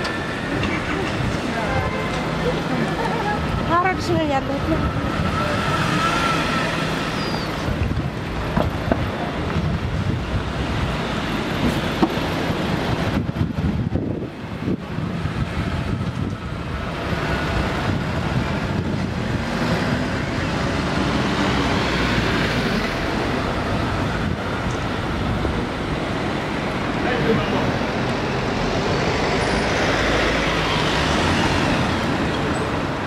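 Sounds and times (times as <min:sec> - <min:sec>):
city street traffic rumble: 0:00.0 - 0:33.0.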